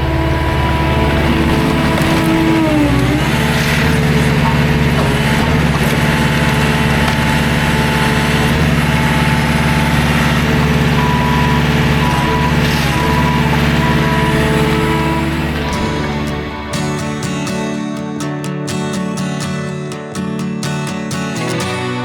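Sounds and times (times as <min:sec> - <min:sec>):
skid steer engine running: 0:00.0 - 0:18.3
high whine: 0:00.0 - 0:18.5.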